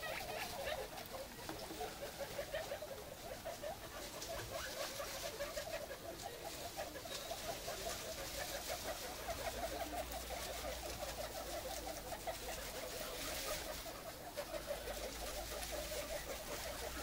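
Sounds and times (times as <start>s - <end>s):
guinea pigs chutting: 0.0s - 17.0s.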